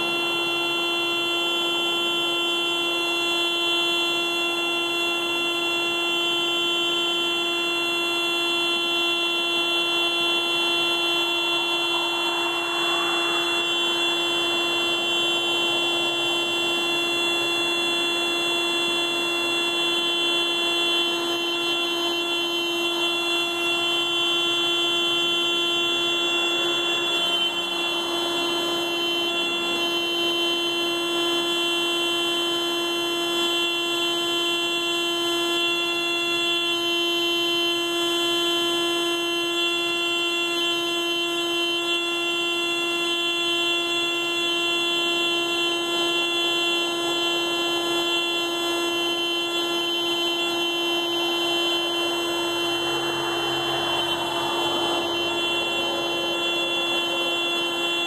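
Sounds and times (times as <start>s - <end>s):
car alarm steady tone: 0.0s - 58.0s.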